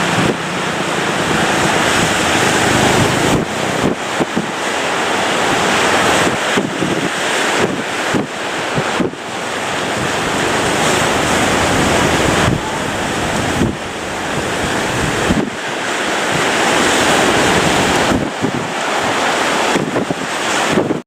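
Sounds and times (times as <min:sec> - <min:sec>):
heavy surf crashing: 0:00.0 - 0:21.0
wind buffeting microphone: 0:00.0 - 0:21.0.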